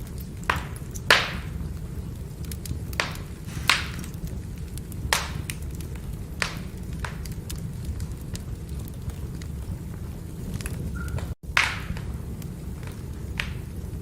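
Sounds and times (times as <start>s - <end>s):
firewood crackling and popping: 0.0s - 14.0s
low rumble of fire: 0.0s - 14.0s.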